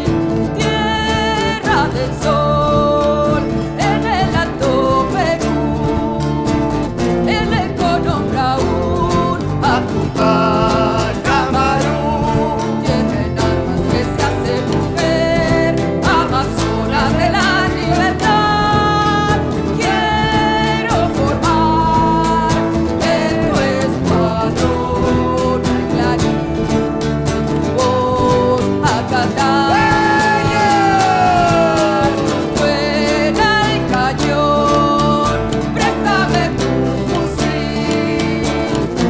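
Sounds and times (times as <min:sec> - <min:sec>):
strummed guitar: 0:00.0 - 0:39.0.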